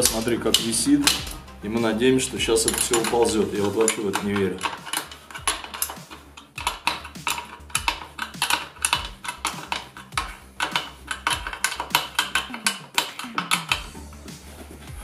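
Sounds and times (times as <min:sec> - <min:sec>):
wrench clicking on metal bolt: 0:00.0 - 0:01.4, 0:02.6 - 0:13.8.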